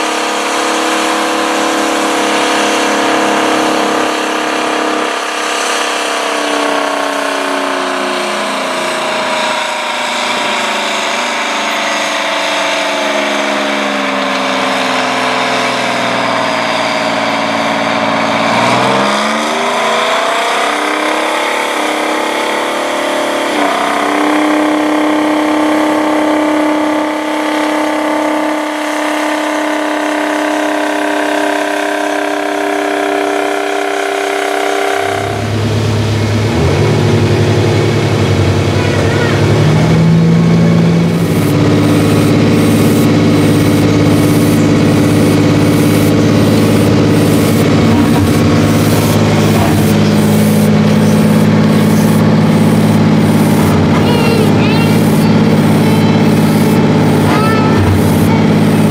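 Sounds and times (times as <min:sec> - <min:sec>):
diesel tractor engine under load: 0:00.0 - 0:58.9.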